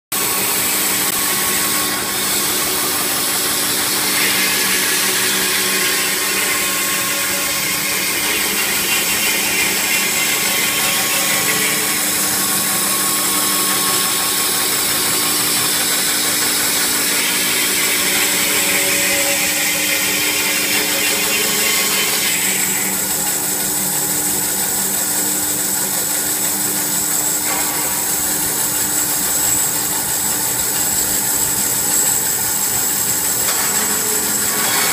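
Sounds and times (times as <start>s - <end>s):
band saw motor hum: 0.2s - 34.9s.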